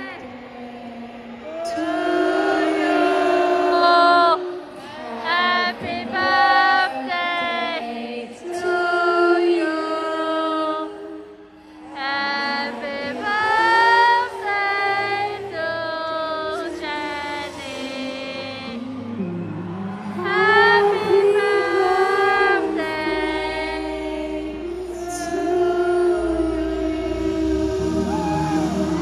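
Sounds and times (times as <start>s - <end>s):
voices singing long notes: 0.0s - 29.0s.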